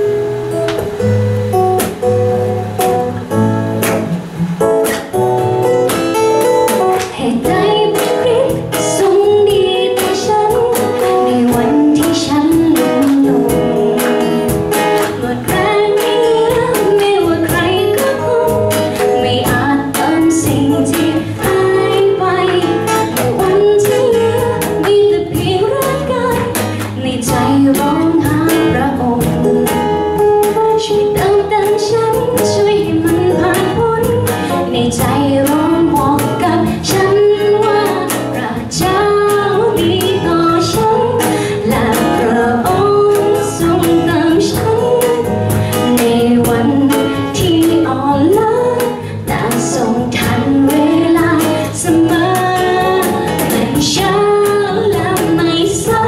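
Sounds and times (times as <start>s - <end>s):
cajon beat: 0.0s - 56.0s
electric guitar: 0.0s - 56.0s
strummed acoustic guitars: 0.0s - 56.0s
woman singing into microphone: 1.9s - 56.0s.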